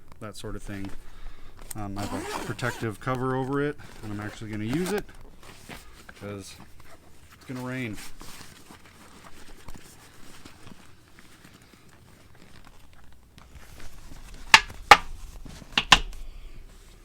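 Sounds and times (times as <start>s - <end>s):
fabric rustling: 1.9s - 17.0s.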